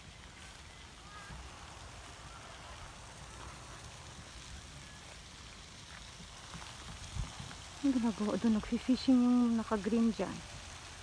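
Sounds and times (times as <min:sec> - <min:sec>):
light rain: 0:00.0 - 0:11.0.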